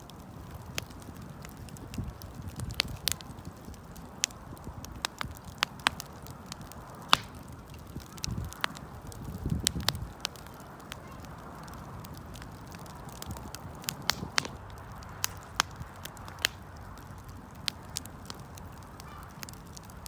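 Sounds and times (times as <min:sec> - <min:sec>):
wood fire popping and snapping: 0:00.0 - 0:20.0.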